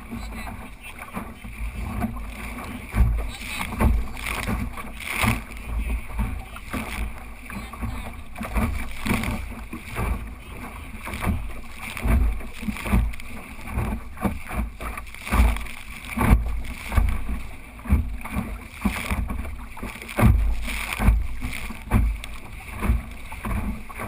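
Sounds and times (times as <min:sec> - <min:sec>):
water slapping against a hull: 0:00.0 - 0:24.0.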